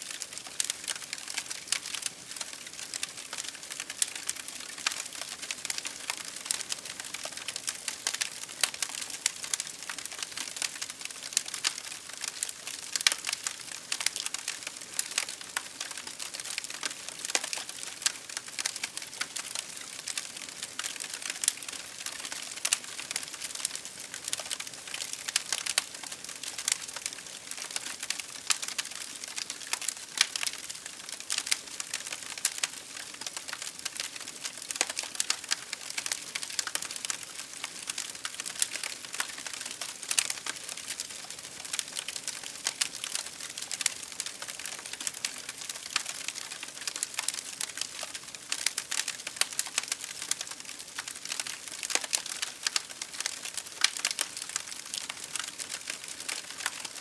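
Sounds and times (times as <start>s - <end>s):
campfire crackling and popping: 0.1s - 57.0s.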